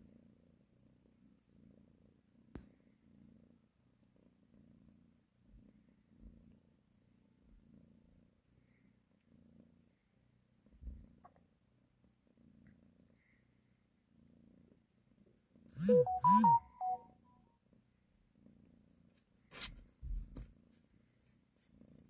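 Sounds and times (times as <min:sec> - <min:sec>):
cat purring: 0:00.0 - 0:17.0, 0:17.6 - 0:22.0.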